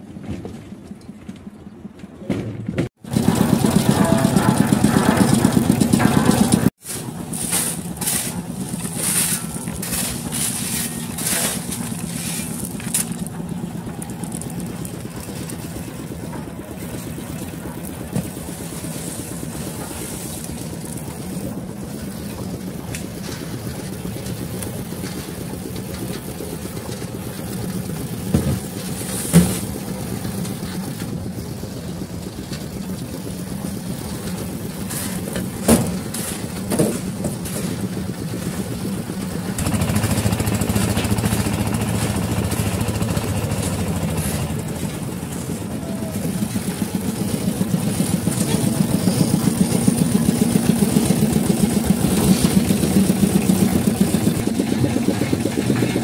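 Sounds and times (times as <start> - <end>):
concrete mixer engine humming: 0.0 - 56.0
knocks and scrapes of site work: 0.0 - 56.0.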